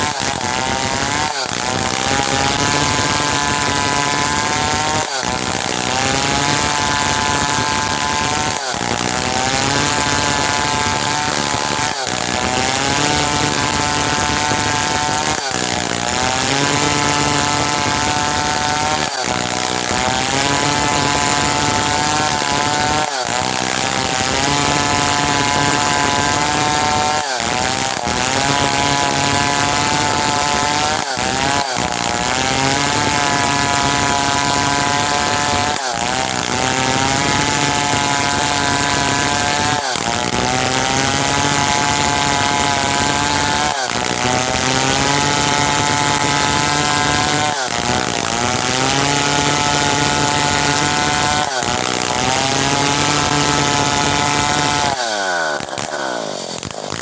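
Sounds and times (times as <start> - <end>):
chainsaw sawing wood: 0.0 - 57.0.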